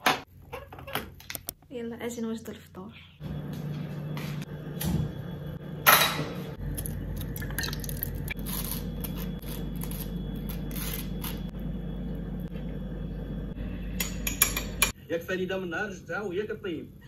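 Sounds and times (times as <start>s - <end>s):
low steady hum: 0.5s - 17.0s.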